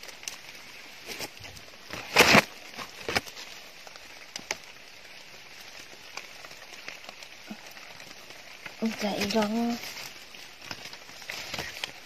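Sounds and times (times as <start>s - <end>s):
crackles in leaf litter: 0.0s - 12.0s
leaves and brush rustling: 0.0s - 12.0s.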